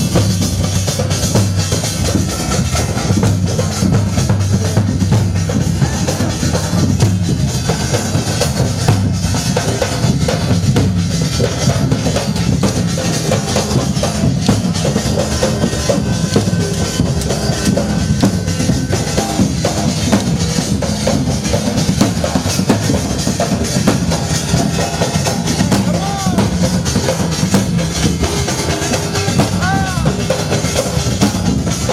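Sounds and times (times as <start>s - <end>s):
drums beating loud rhythm: 0.0s - 31.9s.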